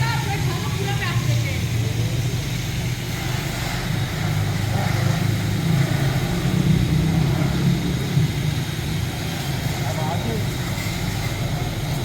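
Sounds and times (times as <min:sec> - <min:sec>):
even hiss: 0:00.0 - 0:12.0.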